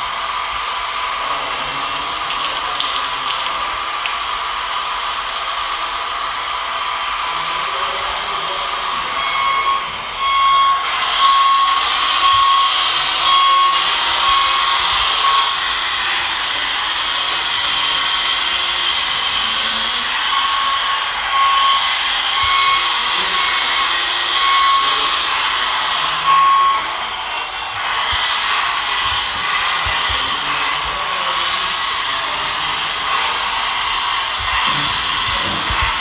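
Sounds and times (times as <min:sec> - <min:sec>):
small electric motors whining: 0:00.0 - 0:36.0.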